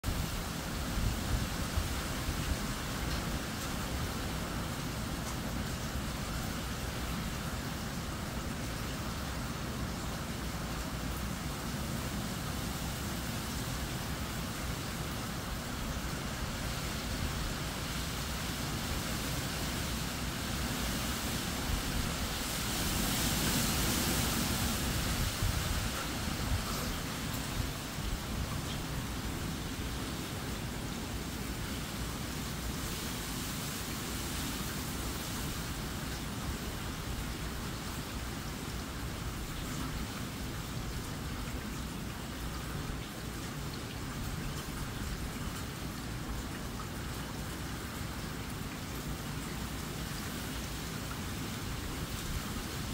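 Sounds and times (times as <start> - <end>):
palm fronds rustling in wind: 0.0 - 52.9
rain: 0.0 - 52.9.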